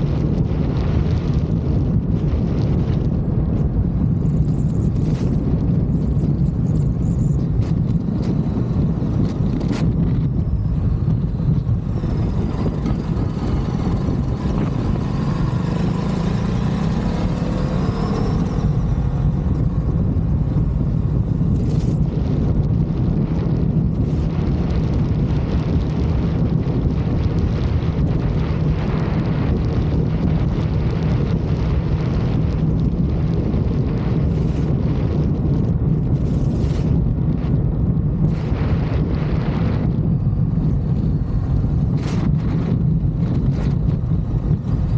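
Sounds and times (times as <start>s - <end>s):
motorcycle engine: 0.0s - 44.9s
wind on microphone: 0.0s - 44.9s.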